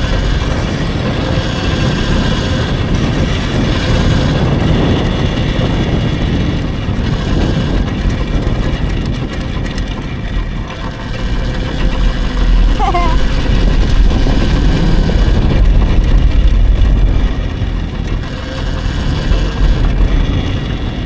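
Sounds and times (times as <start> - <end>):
electric dirt bike riding: 0.0 - 21.0
wind buffeting microphone: 0.0 - 21.0.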